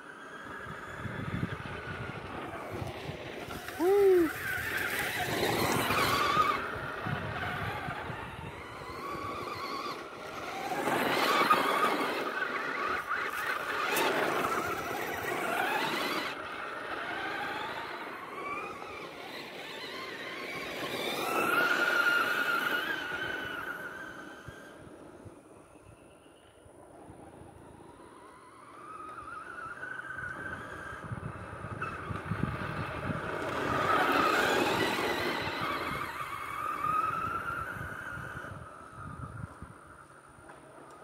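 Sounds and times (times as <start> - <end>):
rc truck motor whining: 0.0 - 41.0.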